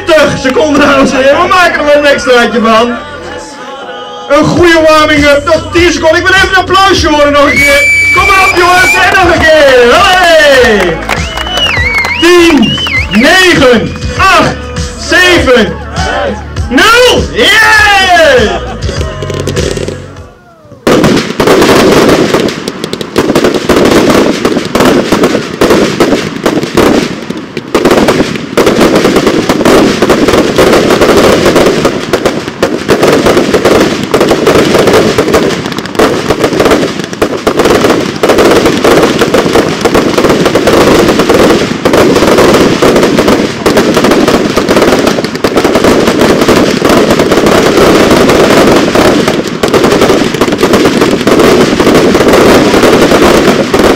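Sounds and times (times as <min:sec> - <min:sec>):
fireworks salute bangs: 0:00.0 - 0:53.9.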